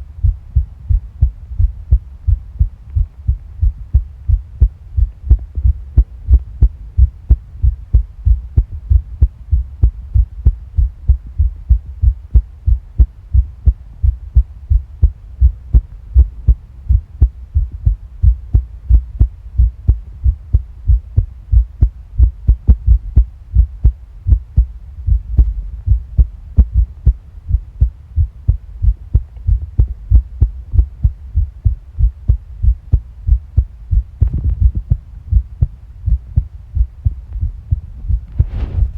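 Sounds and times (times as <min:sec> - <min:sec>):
heartbeat thuds: 0:00.0 - 0:38.9
low hum: 0:00.0 - 0:38.9.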